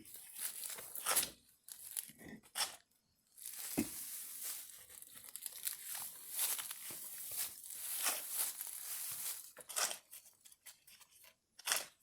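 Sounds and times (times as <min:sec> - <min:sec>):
rustling and crinkling: 0:00.0 - 0:11.9.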